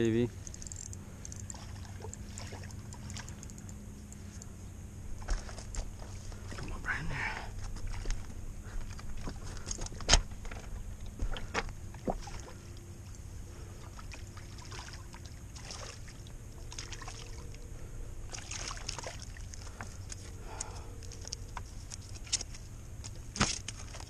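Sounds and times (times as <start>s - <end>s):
fish splashing and thrashing: 0.4s - 3.8s, 5.1s - 17.7s, 18.3s - 22.5s.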